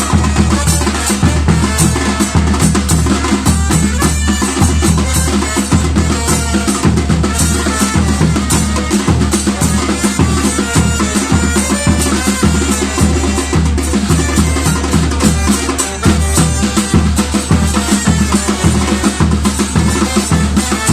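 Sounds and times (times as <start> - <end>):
deep bass drum beats: 0.0 - 20.9
percussion ensemble playing: 0.0 - 20.9.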